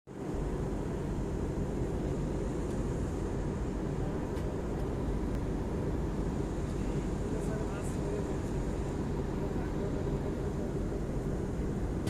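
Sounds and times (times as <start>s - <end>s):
airliner engines rumbling: 0.1s - 12.0s.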